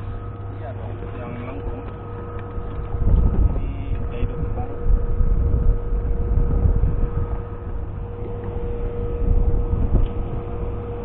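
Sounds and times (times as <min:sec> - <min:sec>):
outboard motor humming: 0:00.0 - 0:11.0
wind buffeting microphone: 0:00.0 - 0:11.0.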